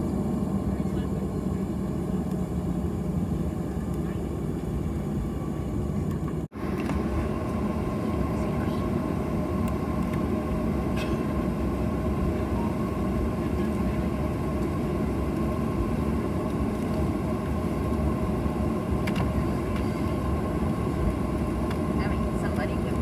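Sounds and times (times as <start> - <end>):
jet engine rumble: 0.0 - 23.0
thin steady whine: 0.0 - 23.0.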